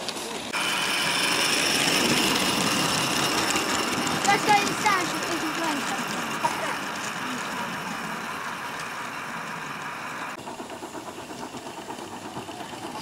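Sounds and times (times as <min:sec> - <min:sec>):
locomotive fast regular beat: 0:00.4 - 0:13.0
locomotive steam hiss: 0:00.4 - 0:13.0.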